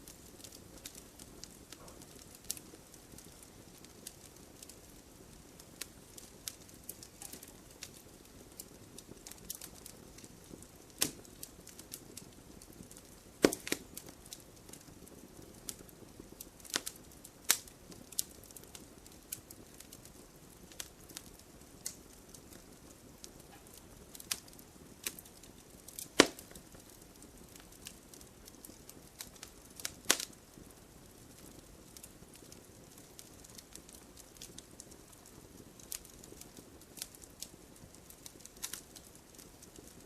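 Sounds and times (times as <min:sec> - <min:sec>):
soft steady hiss: 0:00.0 - 0:40.0
wood fire crackling: 0:00.0 - 0:40.0.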